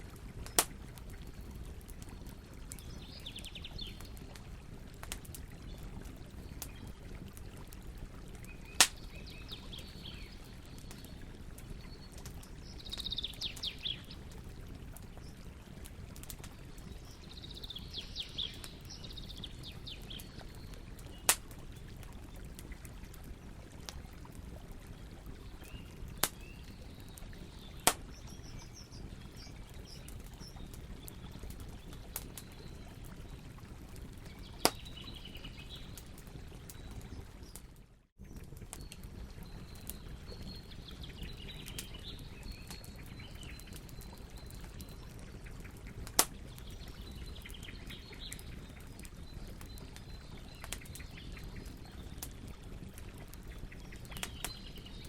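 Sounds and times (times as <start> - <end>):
campfire crackling and popping: 0.0 - 55.0
small birds chirping: 0.4 - 24.0, 24.9 - 33.4, 34.0 - 37.6, 38.2 - 55.0.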